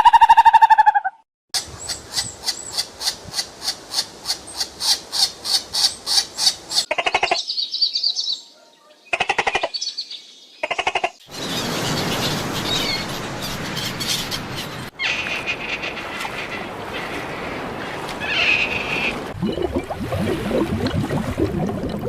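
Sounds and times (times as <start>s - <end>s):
birds chirping: 1.6s - 19.3s
outdoor background noise: 1.6s - 22.0s.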